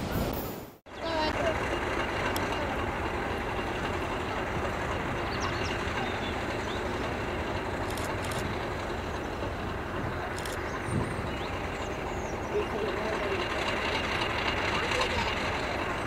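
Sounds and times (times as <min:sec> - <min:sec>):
diesel locomotive engine droning: 0:00.0 - 0:16.0.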